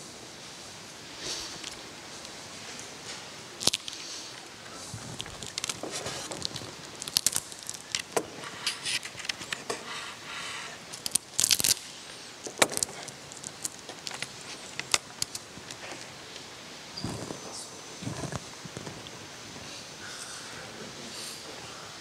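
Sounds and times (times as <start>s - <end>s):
rustle: 0.0s - 22.0s.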